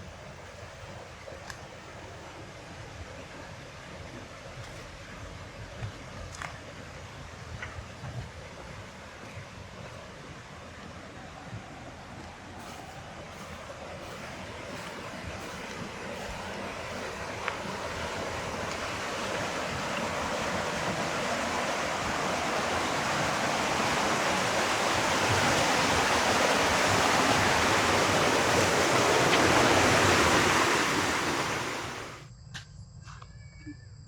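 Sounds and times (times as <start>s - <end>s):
water splashing at a water wheel: 0.0s - 32.2s.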